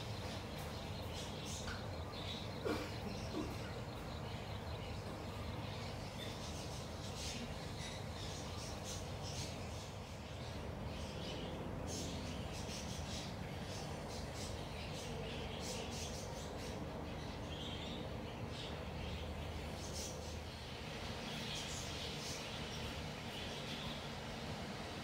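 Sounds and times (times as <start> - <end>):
low ambient rumble: 0.0 - 25.0
small birds chirping: 0.0 - 25.0.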